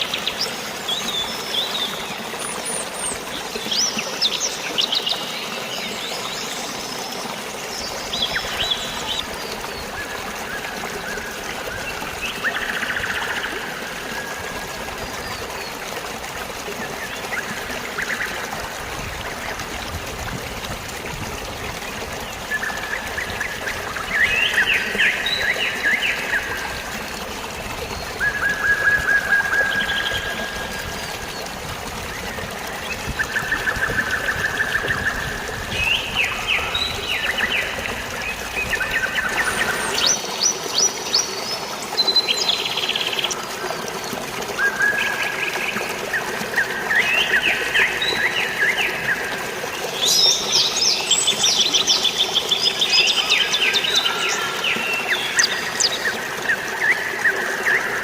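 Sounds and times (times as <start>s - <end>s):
flowing water rushing: 0.0s - 58.0s
songbirds singing: 0.0s - 58.0s.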